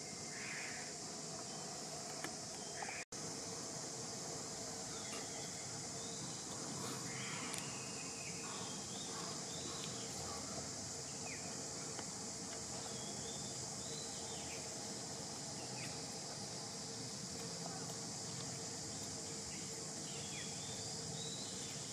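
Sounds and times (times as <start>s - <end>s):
insect chorus hiss: 0.0s - 21.9s.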